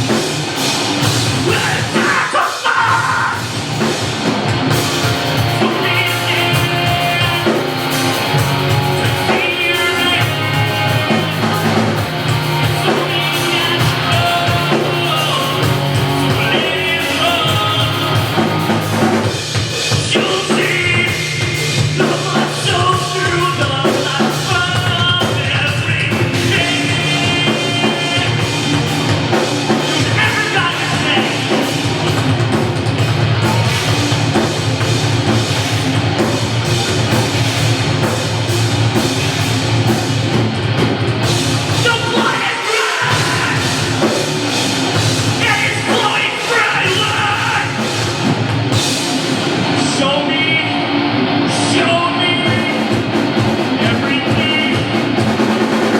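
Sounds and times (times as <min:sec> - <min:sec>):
distorted guitars: 0:00.0 - 0:55.9
drum kit: 0:00.0 - 0:55.9
vocals: 0:00.0 - 0:55.9.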